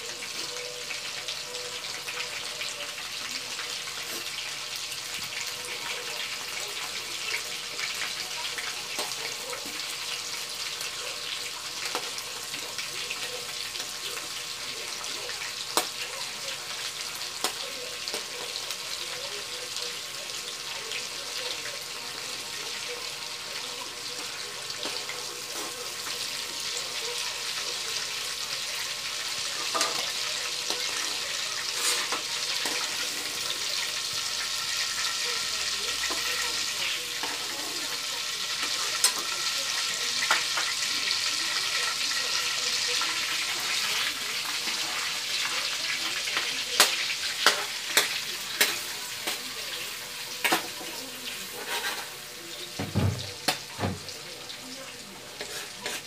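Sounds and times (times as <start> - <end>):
shrimp sizzling in hot oil: 0.0 - 56.0.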